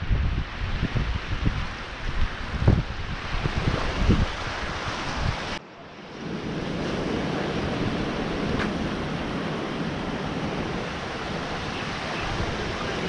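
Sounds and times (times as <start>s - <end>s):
wind on microphone: 0.0s - 13.0s
surf washing over rocks: 0.2s - 13.0s.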